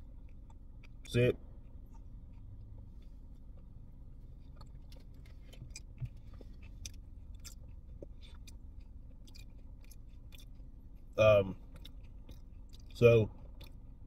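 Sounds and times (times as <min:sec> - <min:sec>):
low steady hum: 0:00.0 - 0:14.0
person chewing: 0:00.0 - 0:14.0.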